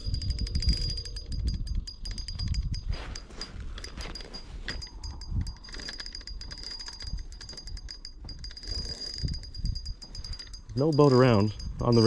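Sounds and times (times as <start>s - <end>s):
fishing reel ticking rapidly: 0.0s - 12.0s.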